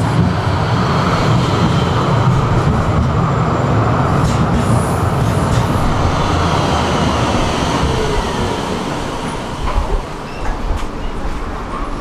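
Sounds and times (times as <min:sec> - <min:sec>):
tram rumble and whine: 0:00.0 - 0:12.0.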